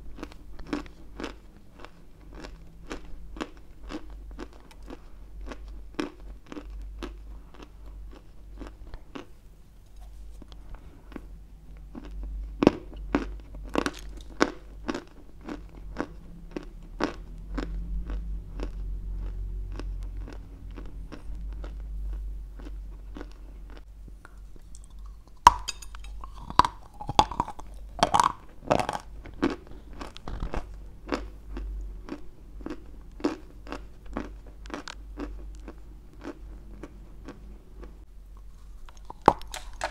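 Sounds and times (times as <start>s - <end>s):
crunching and chewing clay: 0.0s - 9.4s, 10.4s - 39.9s.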